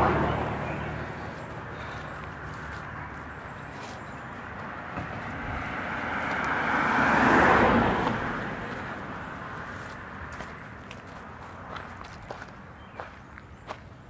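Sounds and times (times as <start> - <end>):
car passing by: 0.0 - 12.0.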